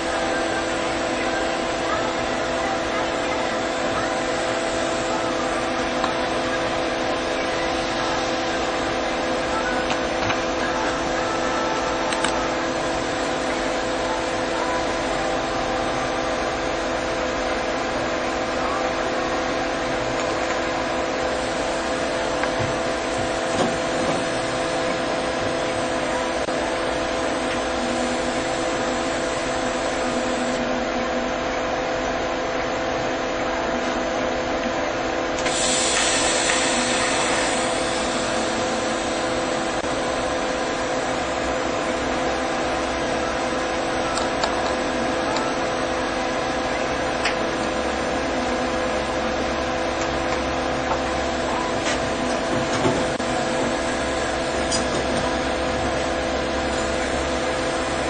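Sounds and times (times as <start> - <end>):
machine hum: 0.0 - 58.0.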